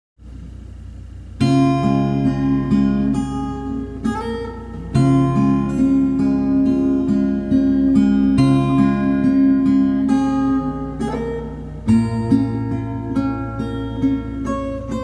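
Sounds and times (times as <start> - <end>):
acoustic guitar: 0.2 - 15.0
low steady hum: 0.2 - 15.0.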